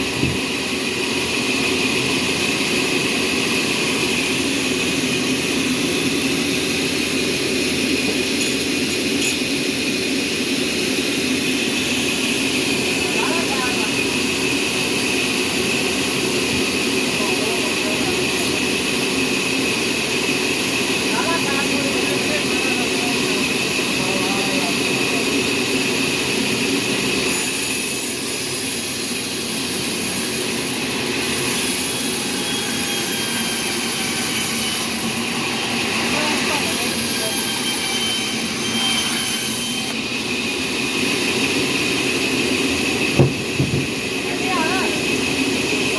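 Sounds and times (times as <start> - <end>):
sawmill machinery whining: 0.0 - 45.9.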